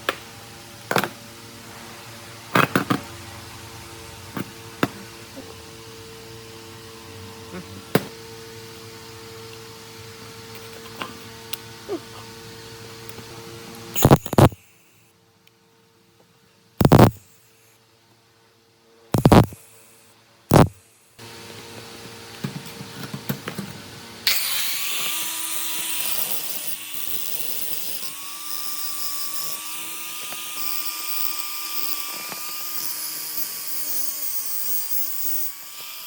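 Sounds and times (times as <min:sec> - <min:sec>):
power tool whining: 0:02.5 - 0:15.1, 0:16.8 - 0:17.7, 0:19.2 - 0:23.4, 0:24.2 - 0:36.0.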